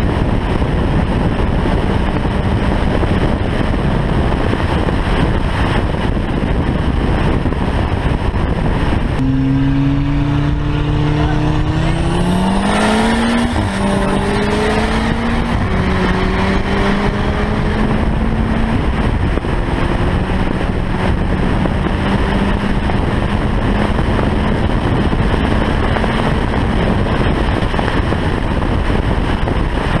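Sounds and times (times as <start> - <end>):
car engine accelerating hard: 0.0 - 30.0
road noise: 0.0 - 30.0
wind noise: 0.0 - 30.0.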